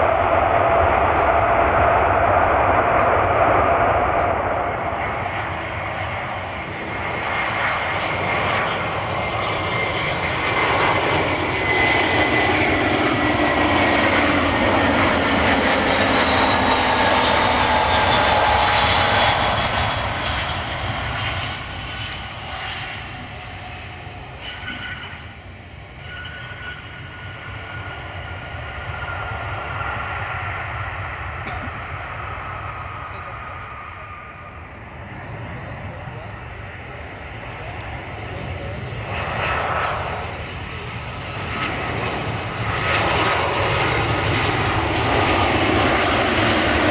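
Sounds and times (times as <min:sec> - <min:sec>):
jet airliner engines whining: 0:00.0 - 0:46.9.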